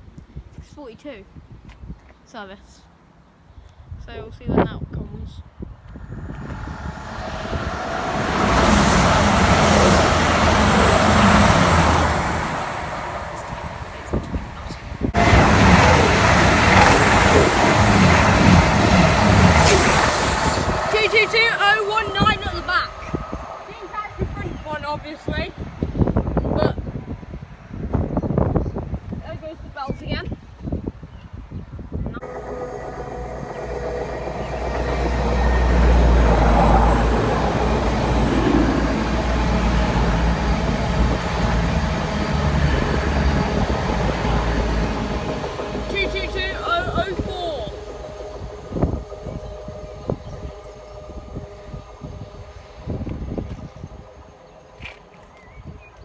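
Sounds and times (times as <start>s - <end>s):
train passing at speed: 5.4s - 31.0s, 31.7s - 56.0s.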